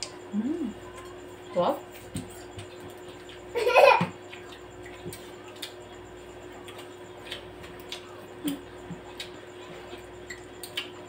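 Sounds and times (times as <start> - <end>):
steady hum: 0.0 - 11.0
chewing and eating sounds: 0.1 - 11.0.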